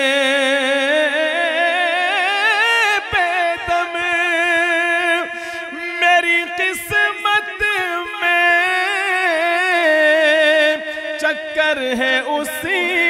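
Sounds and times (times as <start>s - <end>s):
man singing ornamented melody: 0.0s - 13.0s.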